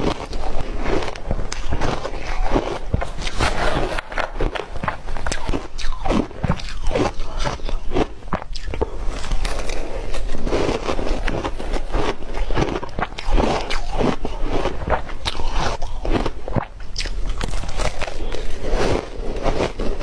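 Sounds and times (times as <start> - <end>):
ice being chewed: 0.0 - 20.0.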